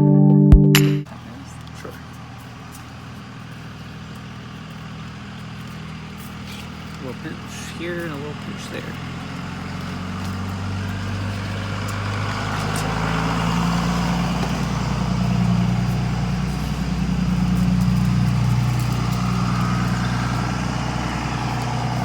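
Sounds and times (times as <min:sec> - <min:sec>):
vehicle engine running: 0:01.1 - 0:22.0.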